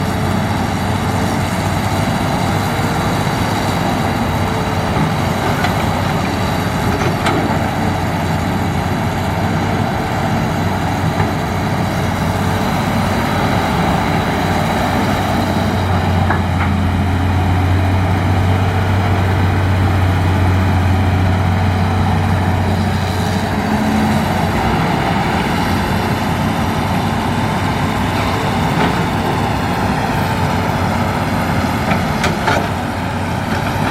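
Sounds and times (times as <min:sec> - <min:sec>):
excavator diesel engine droning: 0:00.0 - 0:33.9.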